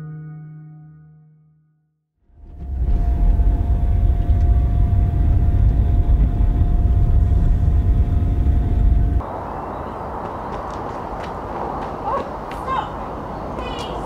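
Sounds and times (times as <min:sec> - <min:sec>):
car engine and road rumble: 0:02.2 - 0:14.0.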